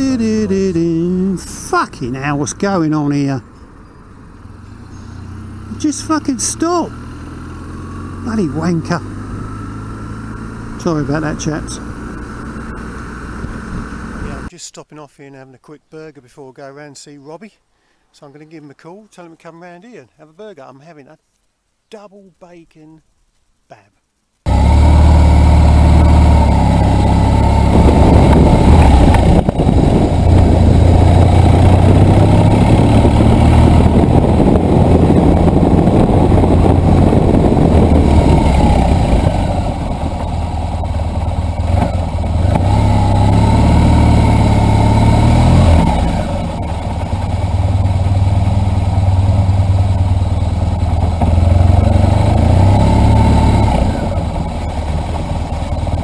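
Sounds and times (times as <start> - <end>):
motorcycle engine revving: 0.0 - 14.5, 24.5 - 56.0.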